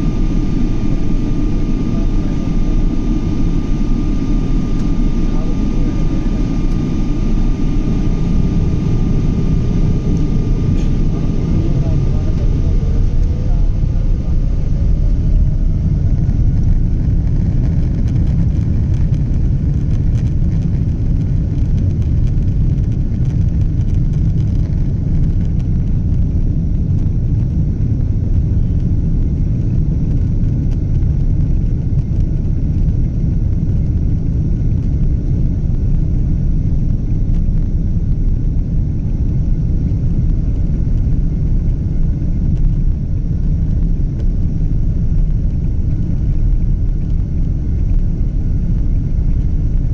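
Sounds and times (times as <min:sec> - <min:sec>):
airliner engines rumbling in cabin: 0:00.0 - 0:49.9.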